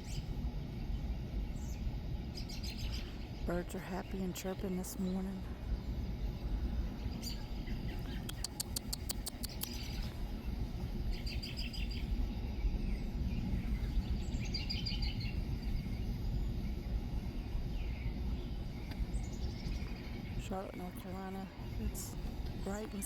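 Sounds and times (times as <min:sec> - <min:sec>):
songbirds chirping: 0:00.0 - 0:23.0
steady low rumble: 0:00.0 - 0:23.0.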